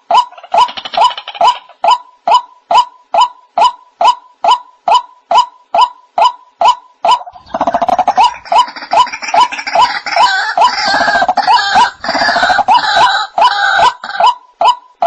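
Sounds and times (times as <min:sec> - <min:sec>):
rasping chorus of bird calls: 0:00.0 - 0:14.9.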